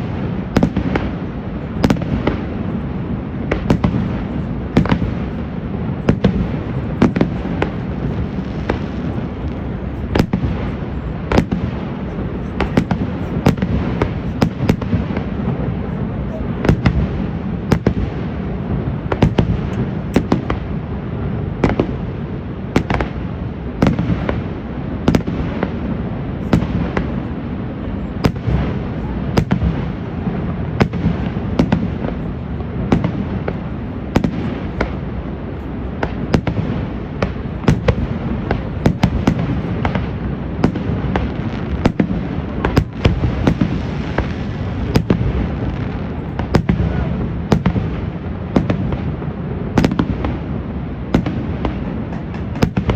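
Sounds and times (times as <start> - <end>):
fireworks bangs: 0.0 - 52.9.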